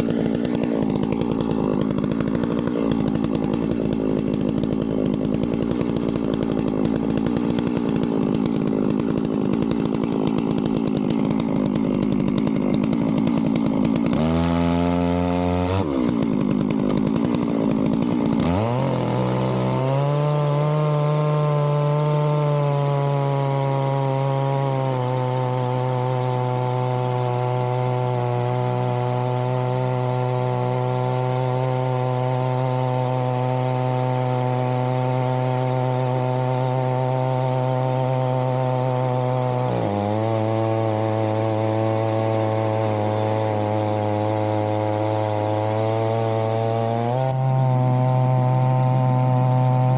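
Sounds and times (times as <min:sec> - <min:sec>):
chainsaw running hard: 0:00.0 - 0:49.9.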